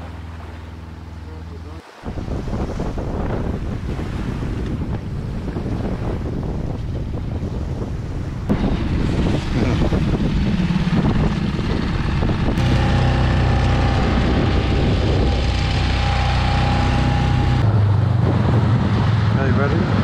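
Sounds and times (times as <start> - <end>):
outboard motor hum: 0.0 - 18.5
wind on microphone: 2.0 - 20.0.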